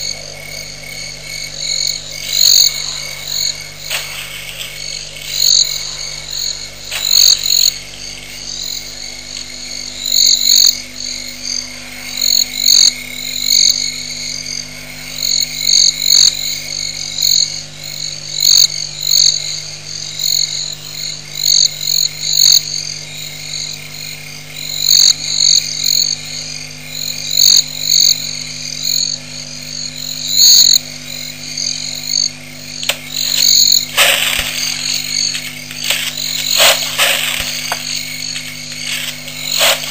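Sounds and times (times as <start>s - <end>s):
frogs calling: 0.0s - 39.9s
steady low hum: 0.0s - 39.9s.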